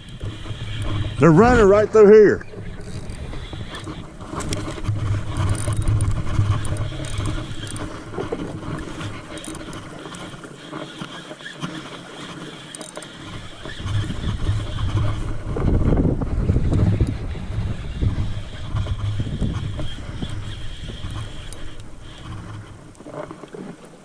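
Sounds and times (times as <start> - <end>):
wind rumbling on microphone: 0.0 - 10.3, 13.2 - 24.0.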